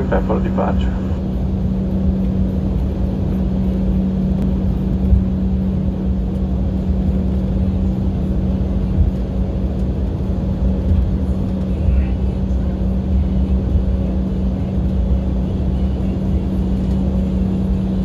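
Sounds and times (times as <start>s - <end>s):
jet engines humming: 0.0s - 18.0s
wheels rumbling on taxiway: 0.0s - 18.0s.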